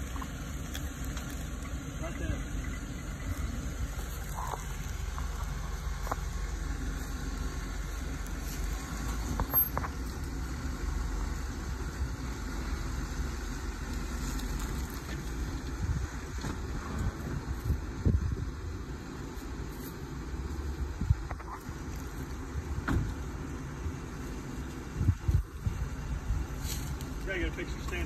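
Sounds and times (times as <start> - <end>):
car engine running at low revs: 0.0 - 28.0.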